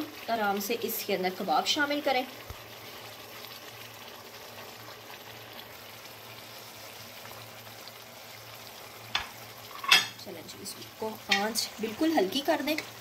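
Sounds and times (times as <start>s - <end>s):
gravy sizzling in a wok: 0.0s - 13.0s.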